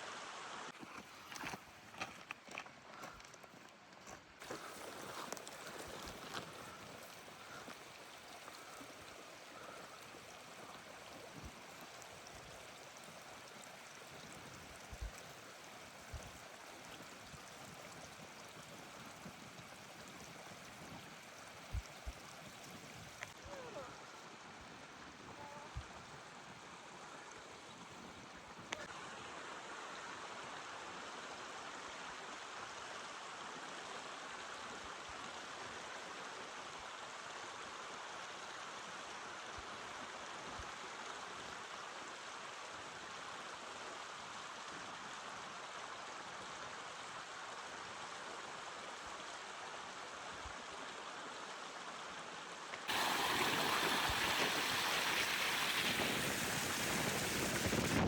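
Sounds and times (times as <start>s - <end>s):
stream water rushing: 0.0s - 2.0s, 4.4s - 58.0s.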